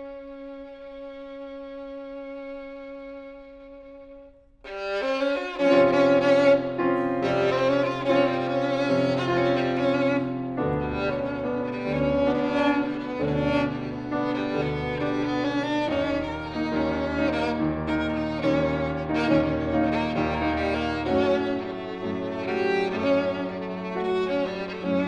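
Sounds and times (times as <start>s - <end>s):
piano: 0.0s - 25.0s
violin: 0.0s - 25.0s.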